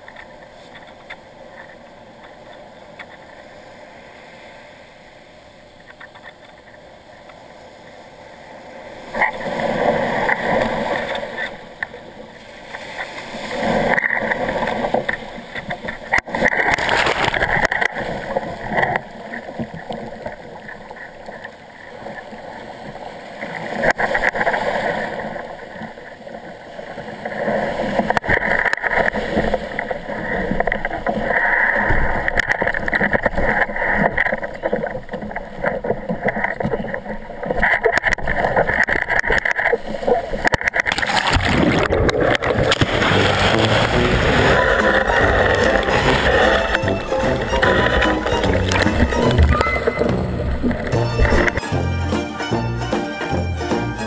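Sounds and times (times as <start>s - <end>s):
surf washing around kayak hull: 0.0s - 53.3s.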